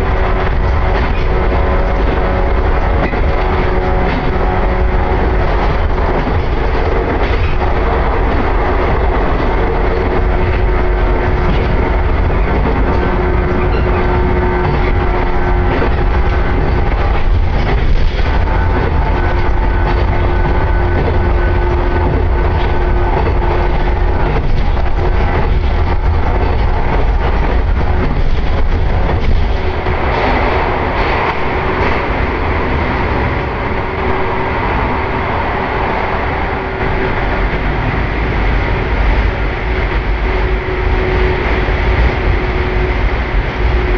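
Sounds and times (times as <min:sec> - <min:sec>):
train low rumble: 0:00.0 - 0:43.9.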